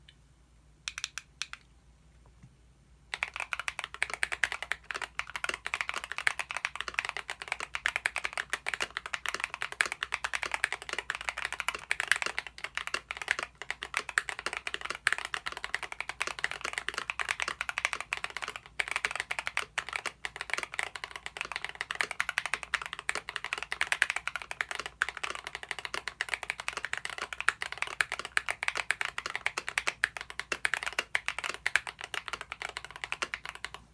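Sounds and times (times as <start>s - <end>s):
mechanical keyboard typing: 3.1s - 33.8s.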